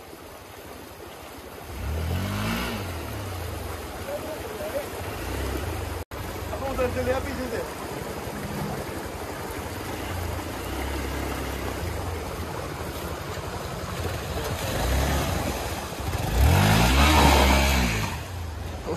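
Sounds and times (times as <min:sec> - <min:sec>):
water splashing: 0:00.0 - 0:18.9
motorcycle engine revving: 0:01.7 - 0:07.2, 0:08.4 - 0:18.9.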